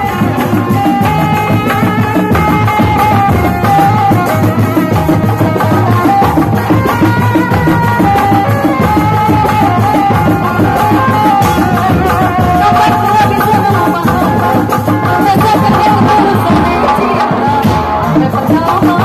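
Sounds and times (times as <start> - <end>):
fast dense drumming: 0.0 - 19.0
wavering melody line: 0.0 - 19.0.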